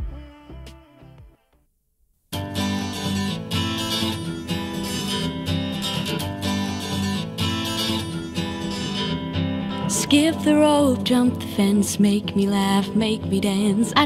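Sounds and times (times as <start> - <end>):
acoustic guitar strumming: 2.3 - 14.0.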